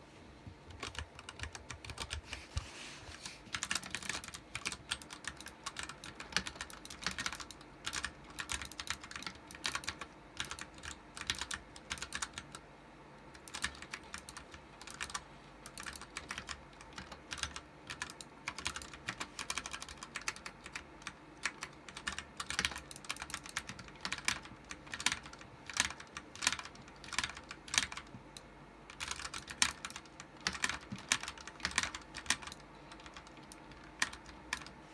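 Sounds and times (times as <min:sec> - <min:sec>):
mechanical keyboard typing: 0:00.7 - 0:02.3, 0:03.5 - 0:12.6, 0:13.3 - 0:34.8.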